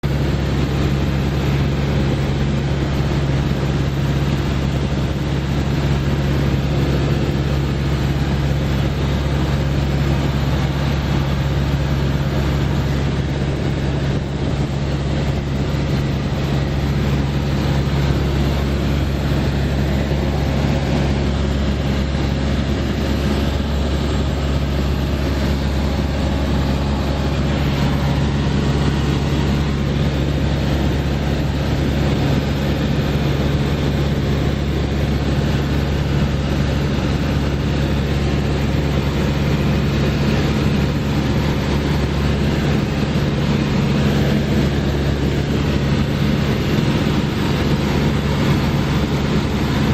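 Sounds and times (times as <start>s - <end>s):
airplane engine and propeller drone: 0.0s - 49.9s.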